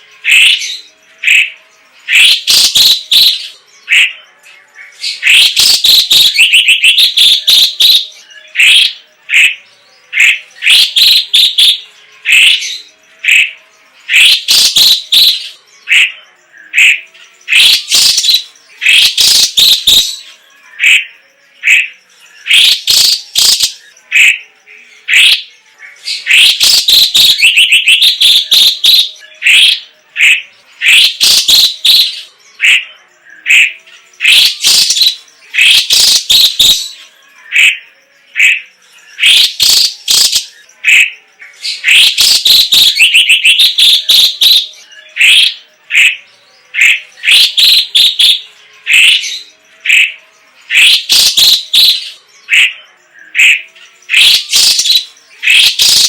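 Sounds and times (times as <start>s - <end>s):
bird chattering and trilling: 0.0s - 56.0s.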